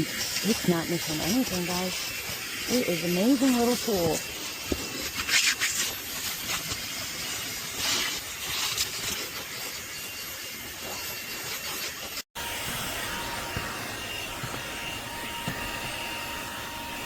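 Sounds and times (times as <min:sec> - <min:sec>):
handheld vacuum running: 0:00.0 - 0:17.0.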